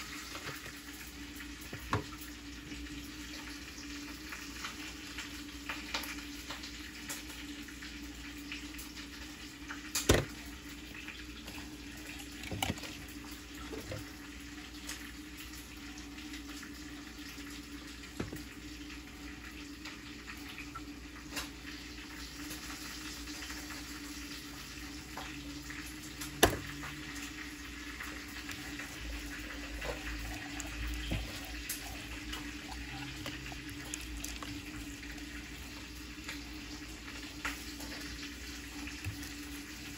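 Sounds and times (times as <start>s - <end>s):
steady kitchen hiss: 0.0s - 39.9s.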